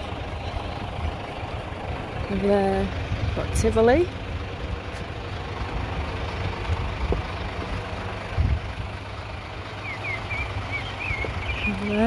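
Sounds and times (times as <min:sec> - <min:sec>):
street background rumble: 0:00.0 - 0:12.0.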